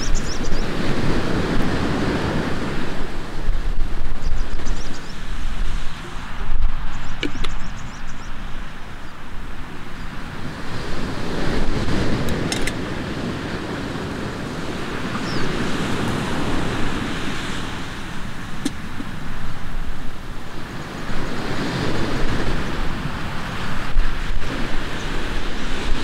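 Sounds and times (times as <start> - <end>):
surf rushing: 0.0 - 26.0
wind buffeting microphone: 0.0 - 26.0.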